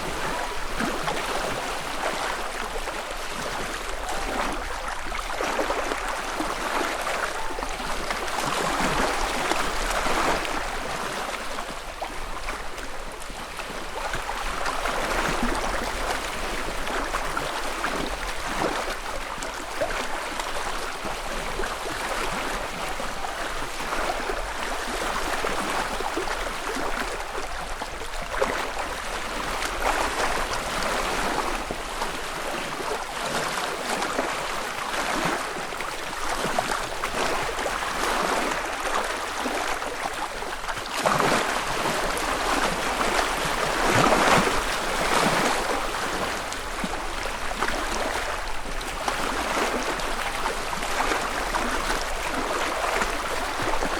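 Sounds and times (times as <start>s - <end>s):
wavelets lapping against shore: 0.0s - 53.9s.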